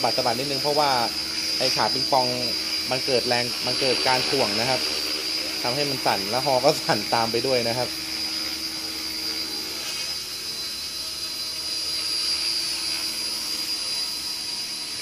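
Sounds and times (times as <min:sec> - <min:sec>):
helicopter rotors humming: 0:00.0 - 0:15.0
rc helicopter motor whine: 0:00.0 - 0:15.0.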